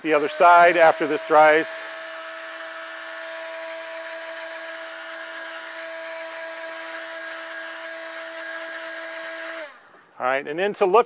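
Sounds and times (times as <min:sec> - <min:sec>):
heat gun blowing air: 0:00.0 - 0:10.2
heat gun motor whine: 0:00.0 - 0:10.2.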